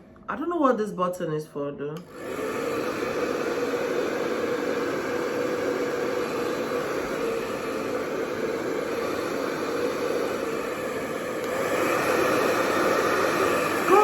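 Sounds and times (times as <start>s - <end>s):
hair dryer running: 2.0s - 14.0s.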